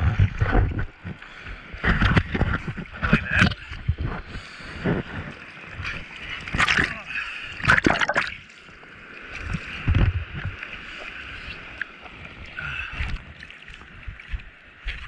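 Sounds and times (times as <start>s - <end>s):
water sloshing against surfboard: 0.0s - 15.0s.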